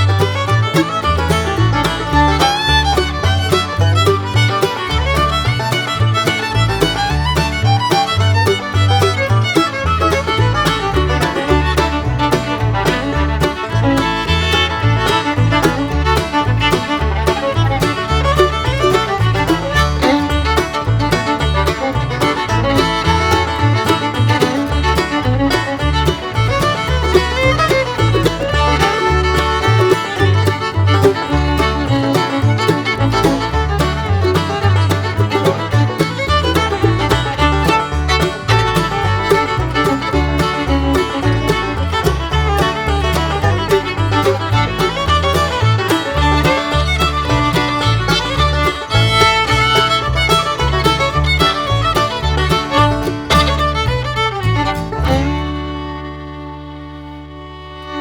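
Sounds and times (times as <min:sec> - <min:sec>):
upbeat bluegrass fiddle and banjo: 0:00.0 - 0:58.0.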